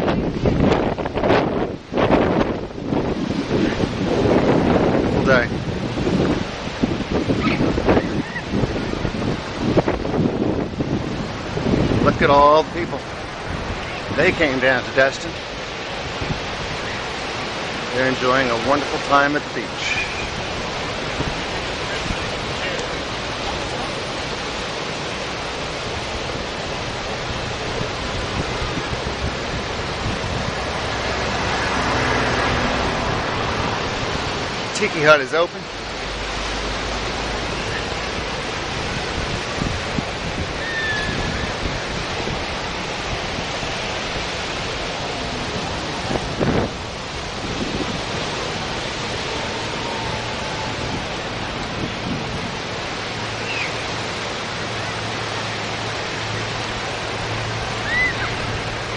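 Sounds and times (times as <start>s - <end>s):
surf breaking on beach: 0.0s - 58.9s
wind rumbling on microphone: 0.0s - 58.9s.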